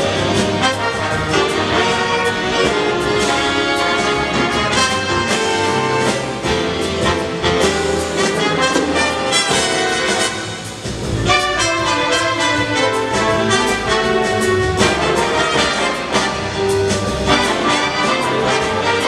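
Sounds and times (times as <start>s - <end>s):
big band jazz: 0.0s - 19.0s
brass section: 0.0s - 19.0s
drums steady beat: 0.0s - 19.0s.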